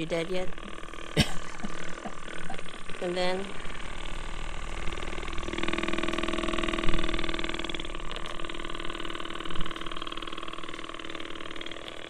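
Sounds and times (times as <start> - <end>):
massage gun motor pulsing: 0.0 - 12.0.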